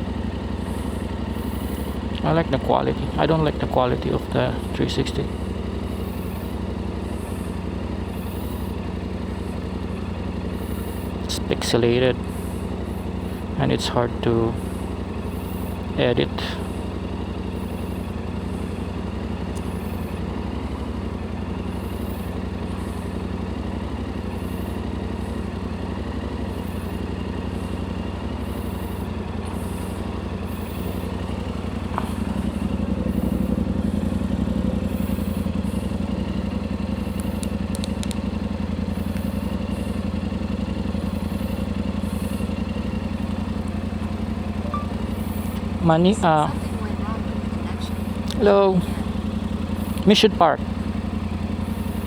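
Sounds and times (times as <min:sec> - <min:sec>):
motorcycle engine idling: 0:00.0 - 0:52.0.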